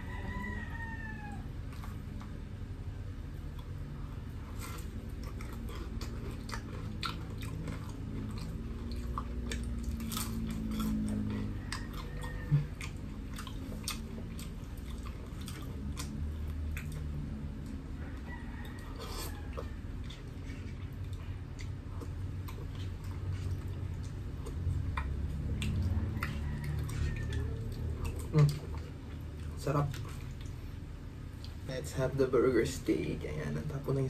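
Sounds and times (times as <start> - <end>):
crunchy chewing with mouth clicks: 0.6 - 31.7.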